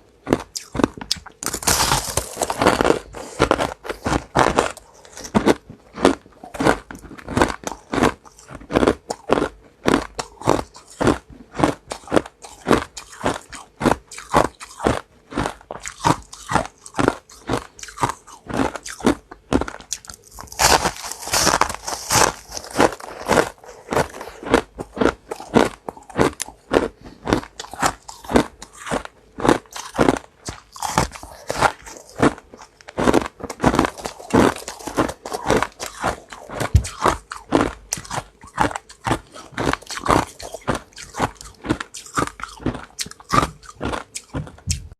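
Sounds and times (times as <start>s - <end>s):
ice being chewed: 0.1s - 44.9s.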